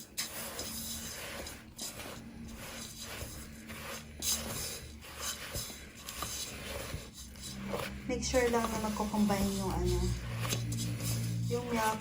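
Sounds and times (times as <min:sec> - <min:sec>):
utensil scraping in a bowl: 0:00.0 - 0:12.0.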